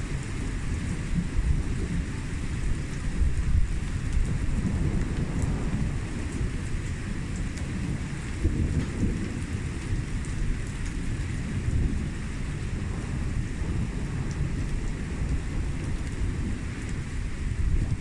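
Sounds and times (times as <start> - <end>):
deep thunder rumble: 0.0 - 18.0
rain falling: 0.0 - 18.0
rain drop ticks: 0.1 - 18.0.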